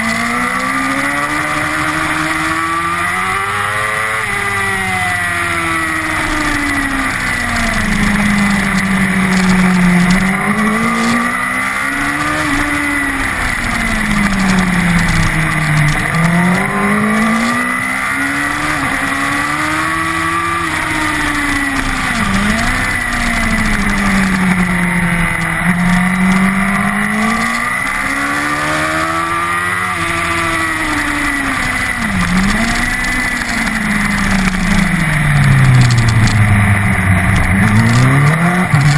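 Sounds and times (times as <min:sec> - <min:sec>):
motorcycle engine revving hard: 0:00.0 - 0:38.9.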